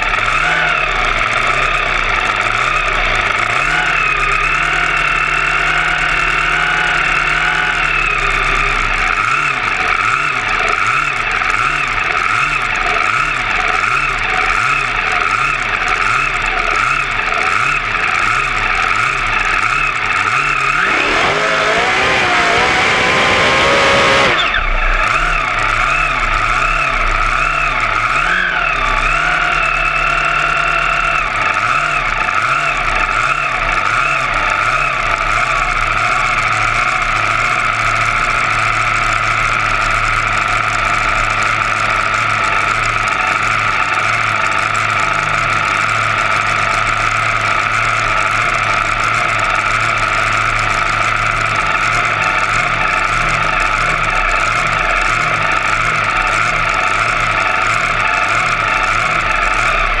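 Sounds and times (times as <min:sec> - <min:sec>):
dragster engine idling: 0:00.0 - 1:00.0.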